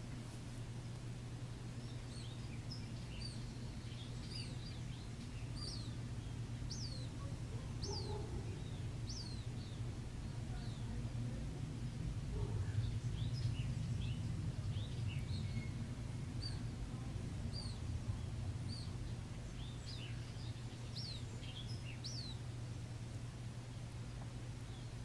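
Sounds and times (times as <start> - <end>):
steady low hum: 0.0 - 25.0
birds chirping: 0.7 - 25.0.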